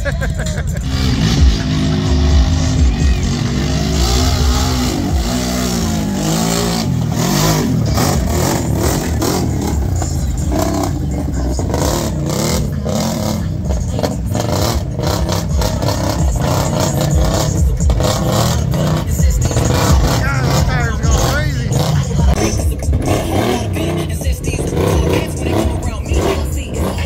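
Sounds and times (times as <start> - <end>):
atv engines revving: 0.0 - 27.0.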